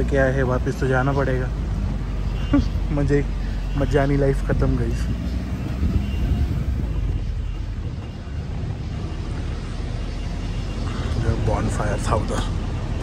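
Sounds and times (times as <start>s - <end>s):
buggy low rumble: 0.0s - 13.0s.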